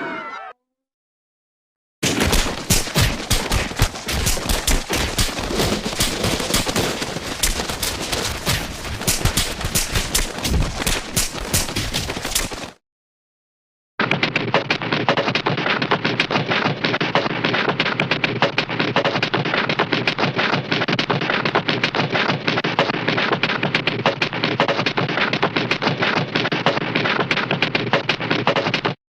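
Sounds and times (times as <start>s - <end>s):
cartoon rapid cracks and hits: 2.0s - 12.8s, 14.0s - 29.0s.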